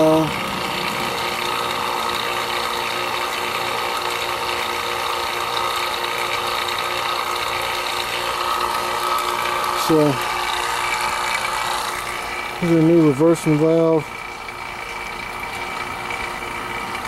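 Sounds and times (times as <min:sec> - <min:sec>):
vacuum pump running: 0:00.0 - 0:17.0.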